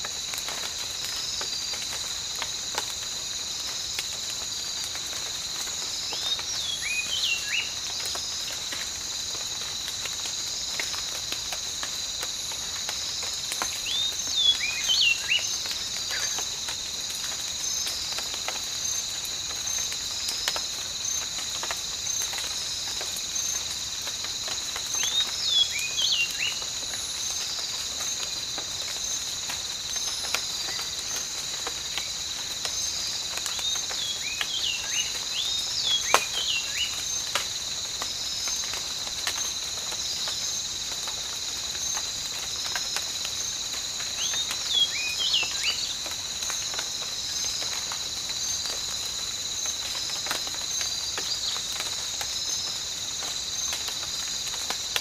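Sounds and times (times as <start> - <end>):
insects chorus: 0.0 - 55.0
light rain pattering: 0.0 - 55.0.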